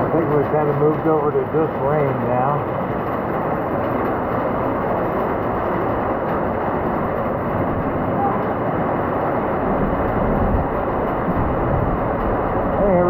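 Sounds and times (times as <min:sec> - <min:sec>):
hail falling: 0:00.0 - 0:13.0
heavy rain falling: 0:00.0 - 0:13.0.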